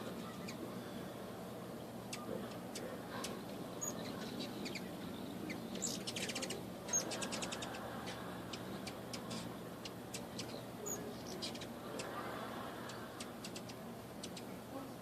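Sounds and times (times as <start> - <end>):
hummingbirds chipping: 0.0 - 15.0
rattling chatter of ticks: 2.0 - 14.5.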